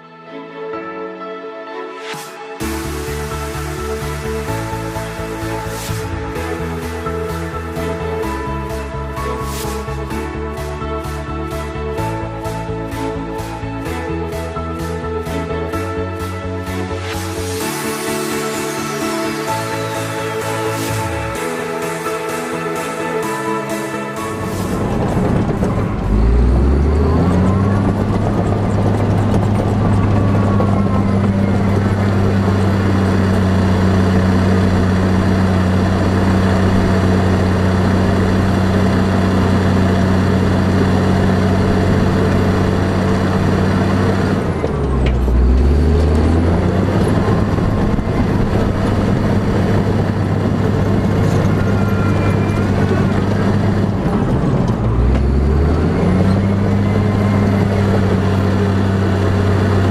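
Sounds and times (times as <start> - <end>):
heavy vehicle engine: 2.1 - 59.9.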